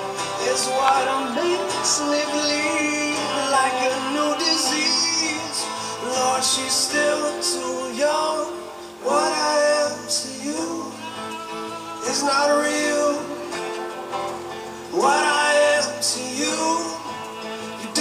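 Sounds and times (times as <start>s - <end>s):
man and woman singing: 0.0s - 14.0s, 14.9s - 18.0s
acoustic guitar: 0.0s - 18.0s.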